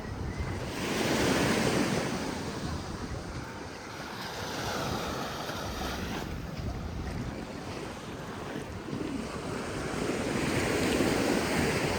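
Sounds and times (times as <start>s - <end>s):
sea waves breaking on beach: 0.0s - 11.9s
wind buffeting microphone: 0.0s - 11.9s.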